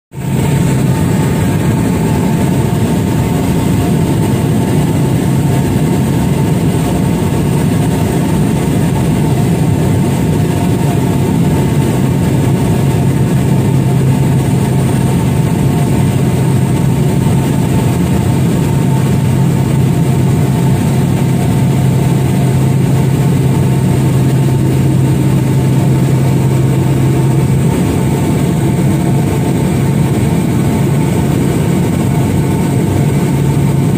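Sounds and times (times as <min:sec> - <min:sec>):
propeller aircraft engine droning: 0:00.1 - 0:33.9.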